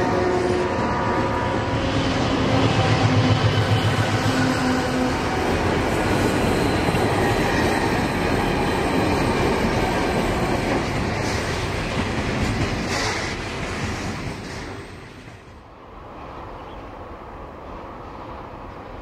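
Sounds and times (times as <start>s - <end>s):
diesel locomotives passing: 0.0s - 19.0s.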